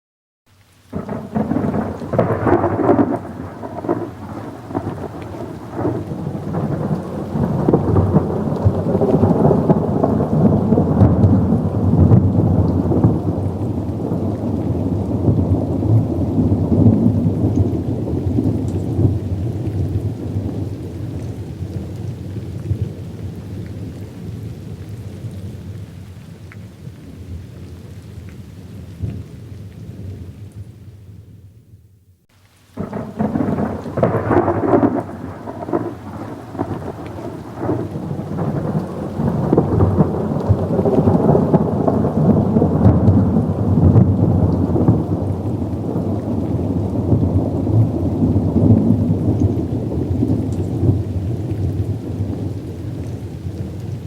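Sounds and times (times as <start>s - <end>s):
steady rain: 0.5s - 54.0s
thunder rumbling: 0.9s - 23.4s, 32.8s - 54.0s.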